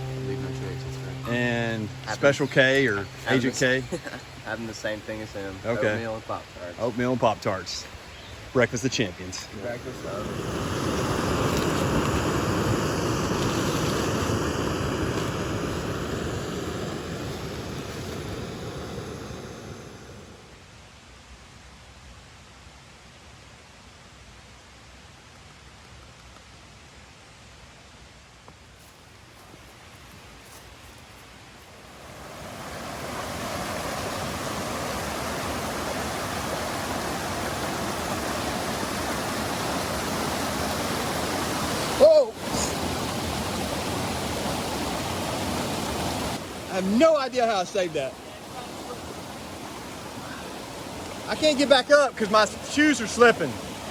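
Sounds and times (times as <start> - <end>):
rushing mountain stream: 0.0 - 20.5, 28.0 - 53.9.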